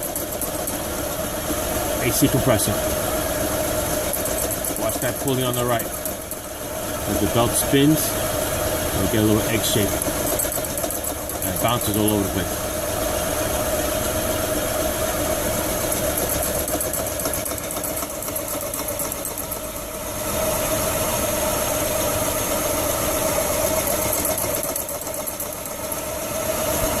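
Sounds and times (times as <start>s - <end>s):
knocking rattle from pulley: 0.0s - 20.0s, 22.6s - 26.2s
car engine idling: 0.0s - 27.0s.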